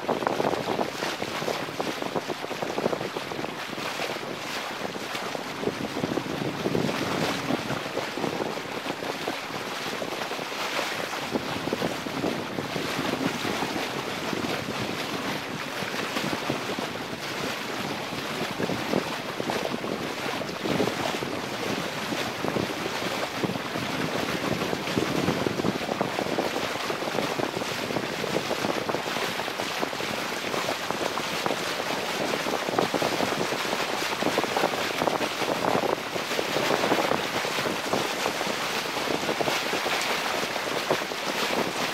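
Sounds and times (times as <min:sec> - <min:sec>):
water rushing along hull: 0:00.0 - 0:41.9
wind buffeting microphone: 0:00.0 - 0:41.9.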